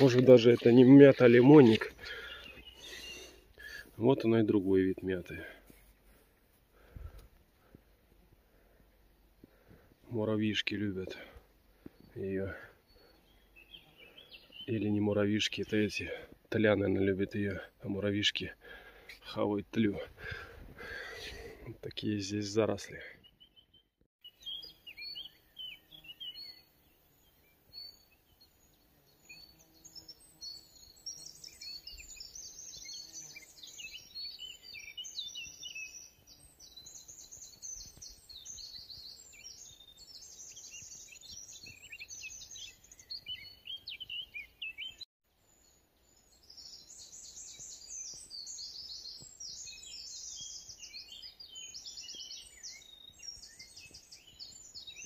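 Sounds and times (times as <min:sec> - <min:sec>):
faint outdoor background noise: 0:00.0 - 0:55.0
songbirds chirping and trilling: 0:00.0 - 0:55.0.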